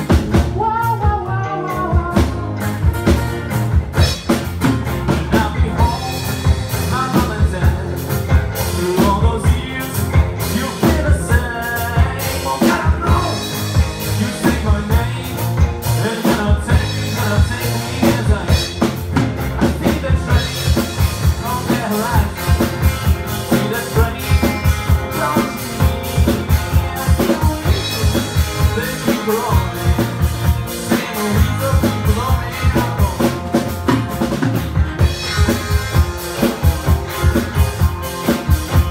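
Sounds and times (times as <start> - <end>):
acoustic guitar: 0.0 - 38.9
bass guitar: 0.0 - 38.9
drum kit beat: 0.0 - 38.9
electric guitar: 0.0 - 38.9.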